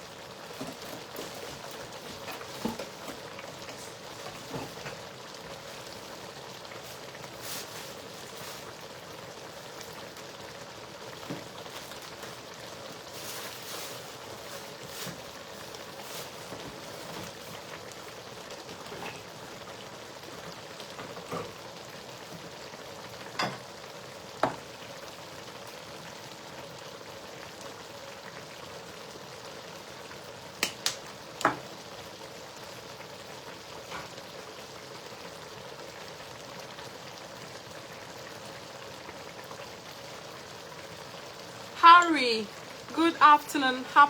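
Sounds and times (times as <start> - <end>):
stew sizzling in a pot: 0.0 - 44.0.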